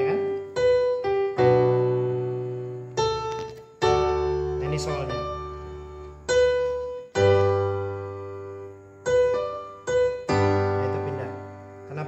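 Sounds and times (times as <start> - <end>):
piano chords on a keyboard: 0.0 - 12.0.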